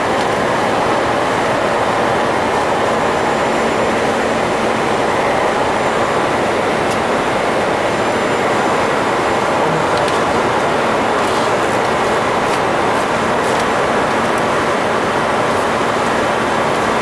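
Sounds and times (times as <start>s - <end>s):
airflow and engine noise in cockpit: 0.0s - 17.0s.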